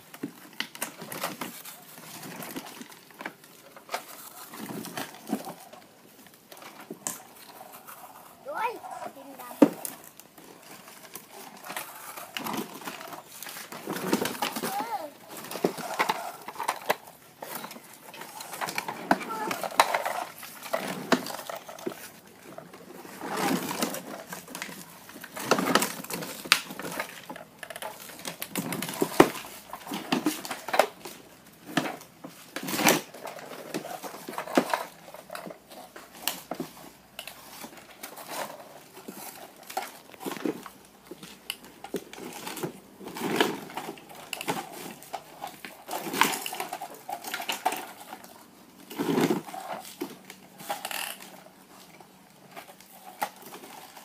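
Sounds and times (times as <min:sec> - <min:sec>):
plastic toy vehicles clattering: 0:00.0 - 0:54.0
rustling: 0:00.0 - 0:54.0.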